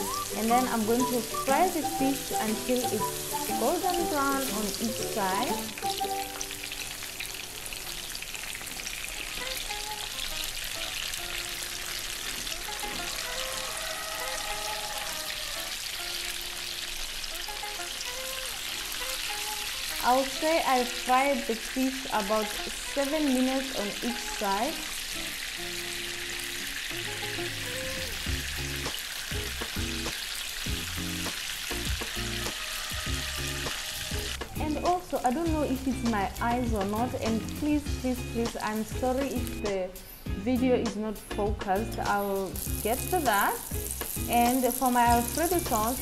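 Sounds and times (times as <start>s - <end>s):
quiet background music: 0.0s - 29.5s, 31.8s - 46.0s
fish frying in hot oil: 0.0s - 39.6s, 42.2s - 46.0s.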